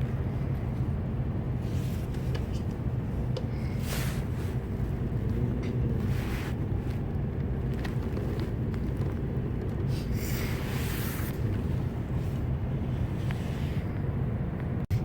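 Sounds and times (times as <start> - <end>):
train car low hum: 0.0 - 15.0.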